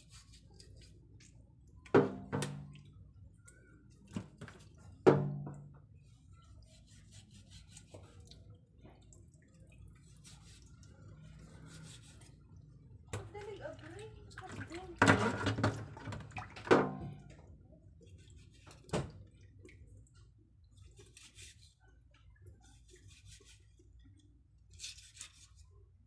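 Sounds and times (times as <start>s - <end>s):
water dripping: 0.5s - 6.8s, 7.4s - 24.8s.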